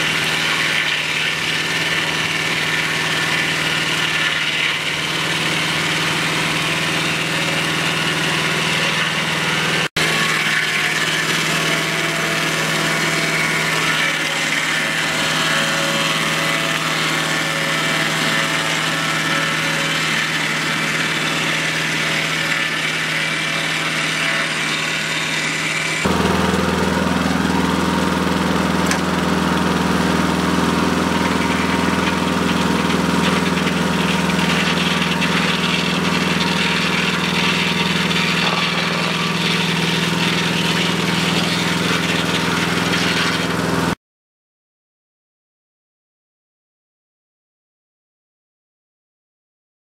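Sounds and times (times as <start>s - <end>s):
circular saw cutting log: 0.0s - 44.0s
sawmill engine running: 0.0s - 44.0s.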